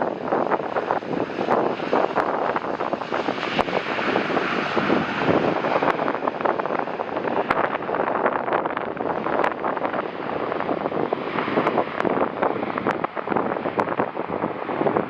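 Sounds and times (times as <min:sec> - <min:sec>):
jet airliner rumble: 0:00.0 - 0:15.0
wind buffeting microphone: 0:00.0 - 0:15.0.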